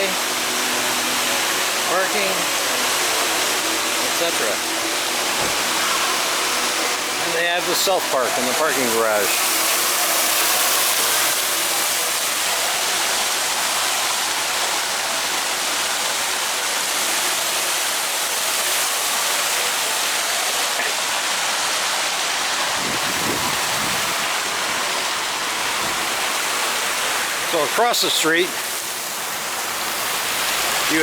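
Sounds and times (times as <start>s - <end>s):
fountain water splashing: 0.0s - 31.0s.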